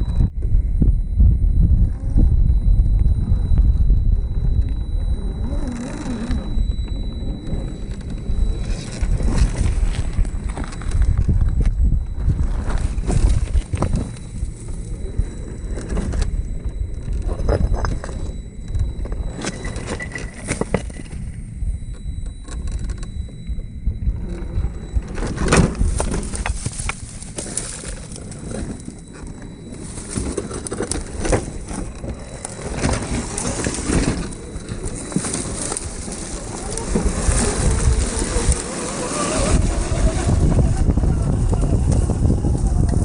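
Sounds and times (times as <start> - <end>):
low rumble: 0.0 - 43.0
tyres crunching over dirt and stones: 6.2 - 23.4, 24.1 - 42.8.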